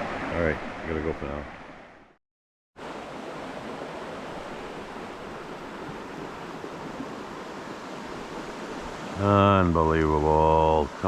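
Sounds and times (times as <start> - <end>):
river water over rocks: 0.0 - 2.0, 2.8 - 11.0.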